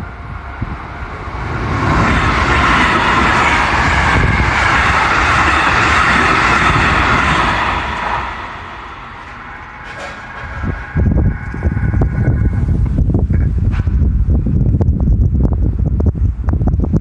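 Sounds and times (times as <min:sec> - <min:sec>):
train rumbling past on rails: 0:00.0 - 0:17.0.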